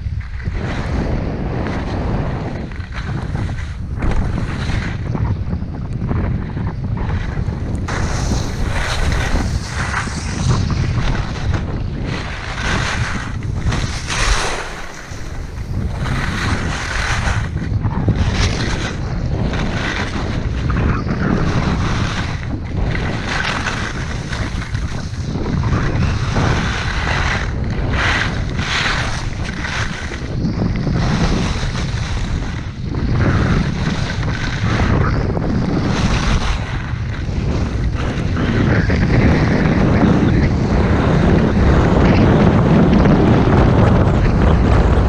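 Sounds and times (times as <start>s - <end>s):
wind rumbling on microphone: 0.0s - 45.0s
skis carving snow: 0.1s - 45.0s.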